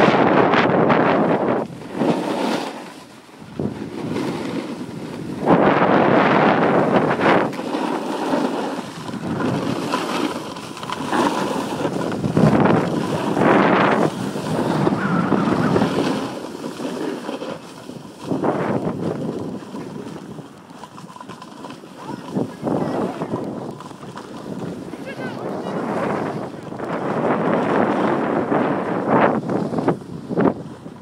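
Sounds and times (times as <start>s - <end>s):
snowboard scraping on snow: 0.0s - 31.0s
wind rushing over microphone: 0.0s - 31.0s.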